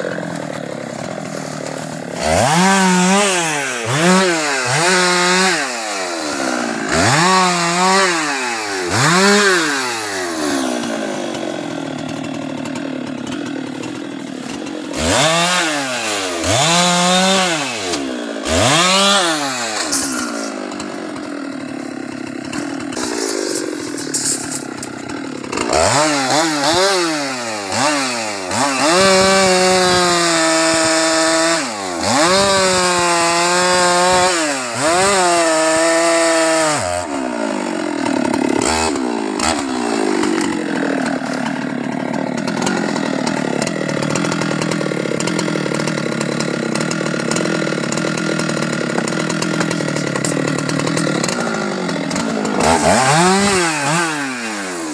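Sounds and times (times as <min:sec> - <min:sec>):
chainsaw cutting through log: 0:00.0 - 0:54.9
chainsaw revving: 0:00.0 - 0:54.9.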